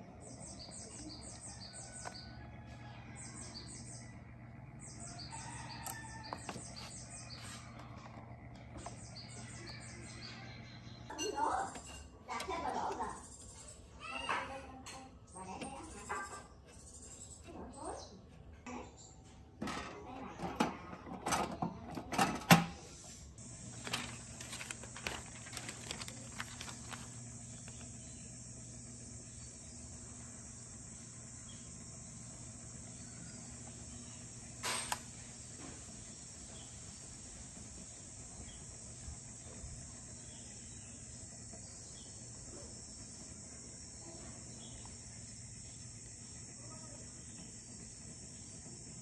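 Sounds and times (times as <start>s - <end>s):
laminator humming and whining: 0.0s - 49.0s.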